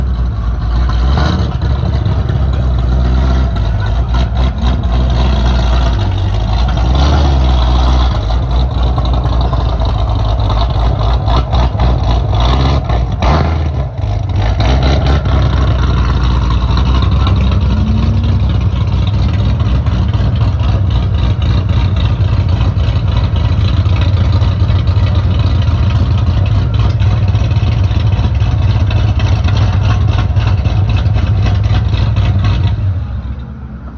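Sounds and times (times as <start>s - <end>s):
car engine deep exhaust rumble: 0.0s - 33.9s.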